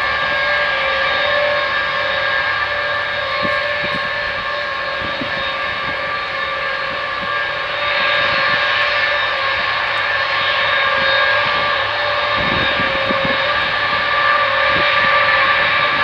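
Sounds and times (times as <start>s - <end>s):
jet engines with whine: 0.0s - 16.0s.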